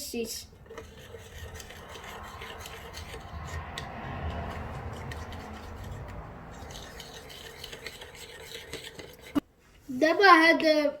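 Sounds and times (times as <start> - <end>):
spoon stirring in container: 0.6 - 9.4.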